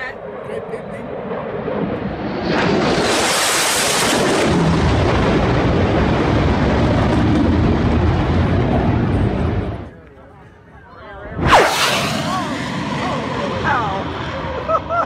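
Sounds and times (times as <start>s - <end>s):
jet engine roar: 0.0s - 10.0s, 11.1s - 15.0s.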